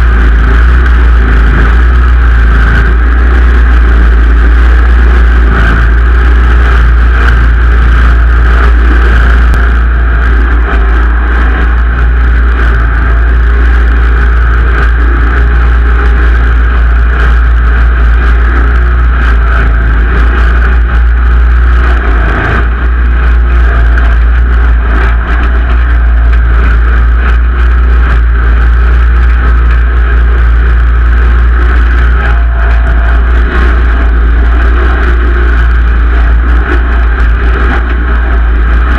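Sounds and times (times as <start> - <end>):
tractor engine rumbling: 0.0 - 38.9.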